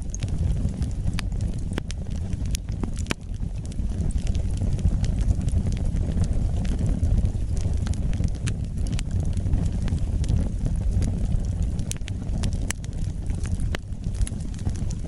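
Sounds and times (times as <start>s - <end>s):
burning wood crackling and popping: 0.0s - 15.0s
fire rumbling: 0.0s - 15.0s.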